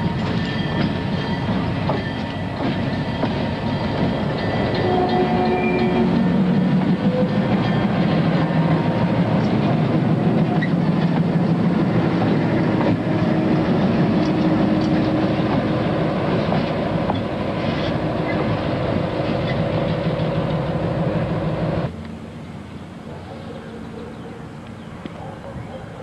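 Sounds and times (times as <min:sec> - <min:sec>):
diesel locomotive engine drone: 0:00.0 - 0:26.0
wheel and rail noise: 0:00.0 - 0:26.0.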